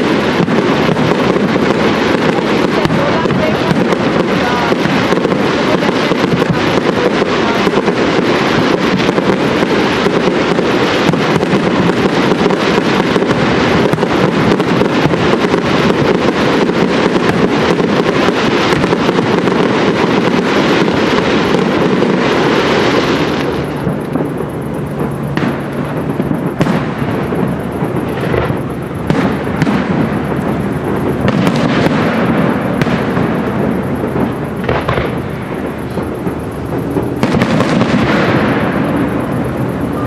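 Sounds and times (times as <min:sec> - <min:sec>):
fireworks popping and banging: 0:00.0 - 0:40.0.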